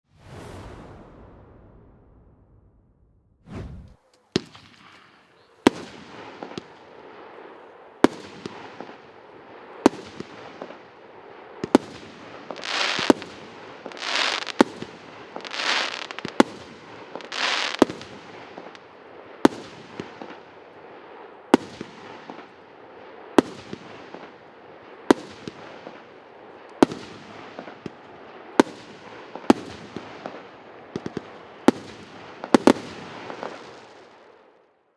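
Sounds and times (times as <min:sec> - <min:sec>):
fireworks bangs and hiss: 0:00.1 - 0:01.7, 0:03.5 - 0:34.5.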